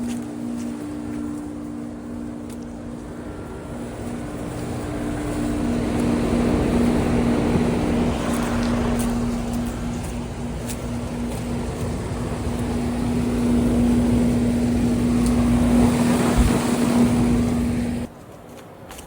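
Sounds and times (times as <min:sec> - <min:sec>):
fan and airflow rushing: 0:00.0 - 0:18.1
two-tone compressor hum: 0:00.0 - 0:18.1.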